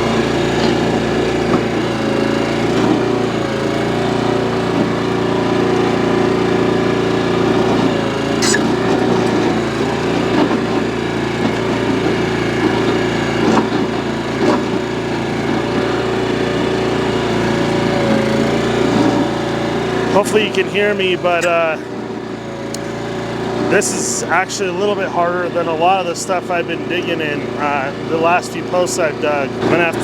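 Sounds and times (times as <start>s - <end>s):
small gas engine running: 0.0s - 30.0s.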